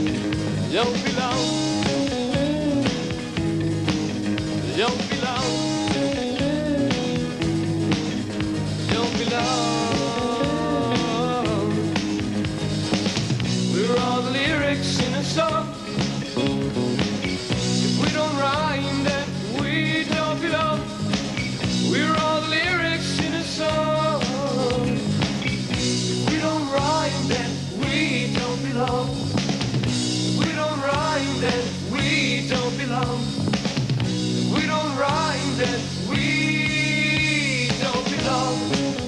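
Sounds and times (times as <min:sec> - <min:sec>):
electric guitar lead sliding: 0:00.0 - 0:39.0
low bass notes: 0:00.0 - 0:39.0
rock band playing: 0:00.0 - 0:39.0.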